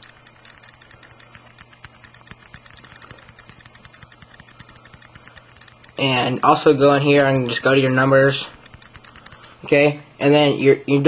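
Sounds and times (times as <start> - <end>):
fingertips tapping touchscreen: 0.0 - 9.7.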